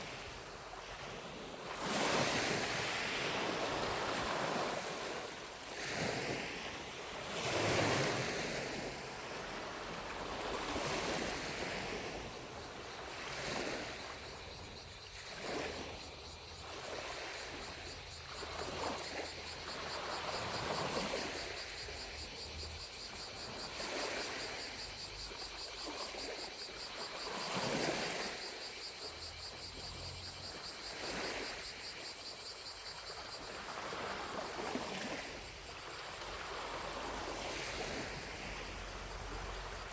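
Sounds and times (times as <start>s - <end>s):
distant cicadas buzzing: 0.0s - 39.9s
lake waves lapping at shore: 0.0s - 39.9s.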